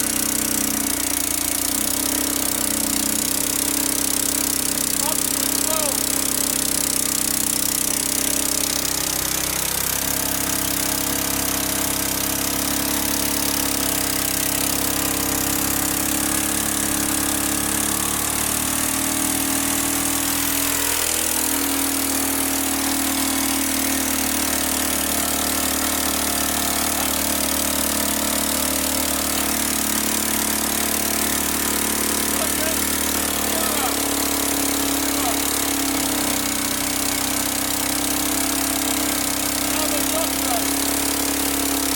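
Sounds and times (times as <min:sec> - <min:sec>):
generator engine running: 0:00.0 - 0:41.9.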